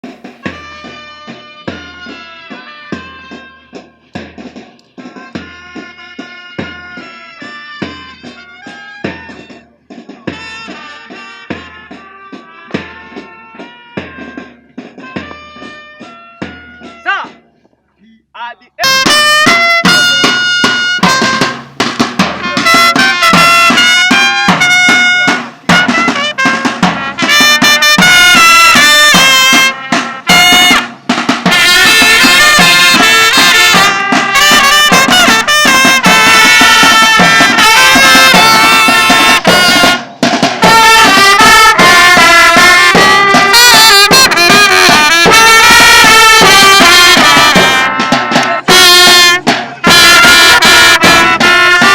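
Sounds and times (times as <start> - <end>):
brass music with drums: 0.0 - 17.6, 18.4 - 51.9.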